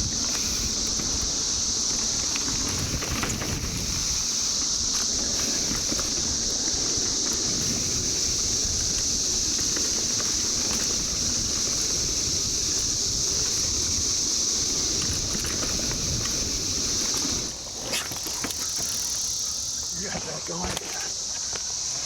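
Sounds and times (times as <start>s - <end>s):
wind rumble: 0.0s - 20.0s
bike tyre noise on trail: 0.0s - 22.0s
cicadas droning: 0.0s - 22.0s.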